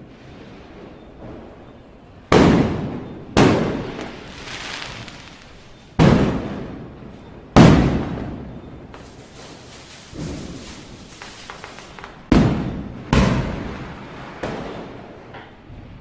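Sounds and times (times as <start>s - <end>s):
firecrackers banging: 0.4s - 15.8s.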